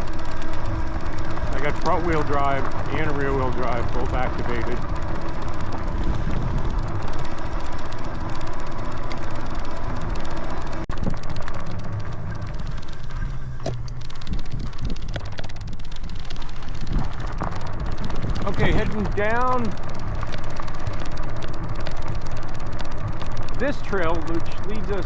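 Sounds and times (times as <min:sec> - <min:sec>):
faint motor whine: 0:00.0 - 0:25.0
tyre and riding noise: 0:00.0 - 0:25.0
wind rush over microphone: 0:00.0 - 0:25.0.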